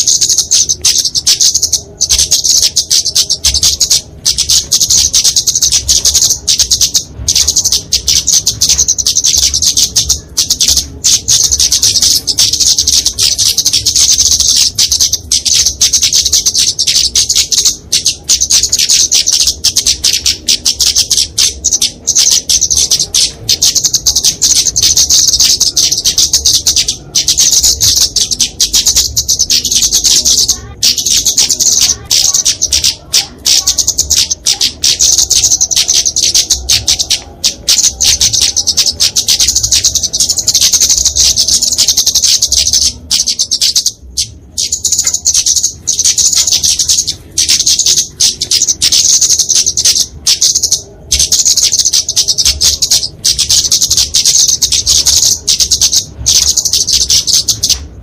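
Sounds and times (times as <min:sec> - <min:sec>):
bird chips and ticks: 0:00.0 - 0:58.0.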